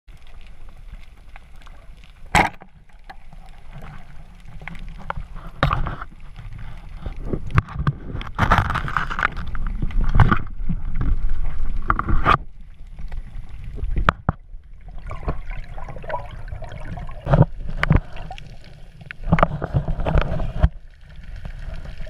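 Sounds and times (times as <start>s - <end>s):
muffled water rumble: 0.1s - 22.0s.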